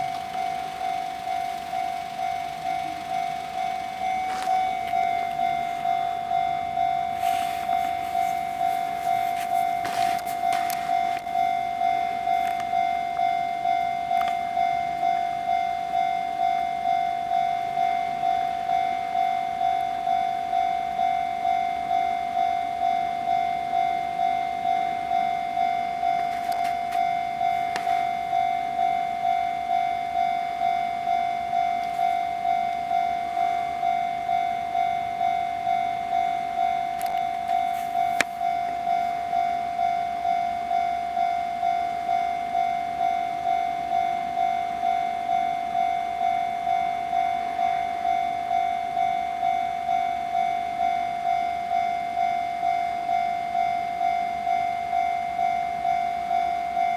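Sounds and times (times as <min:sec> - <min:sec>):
level crossing bell ringing: 0:00.0 - 0:56.9.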